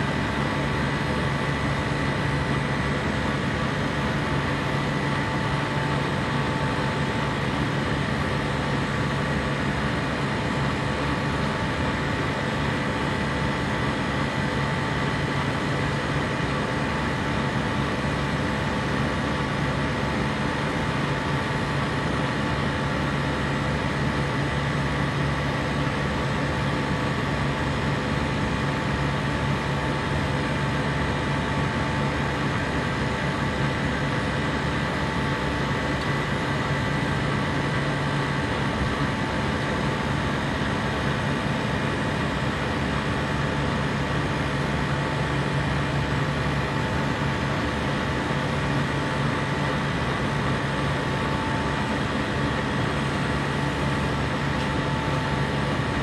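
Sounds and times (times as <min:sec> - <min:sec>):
compressor running: 0:00.0 - 0:56.0.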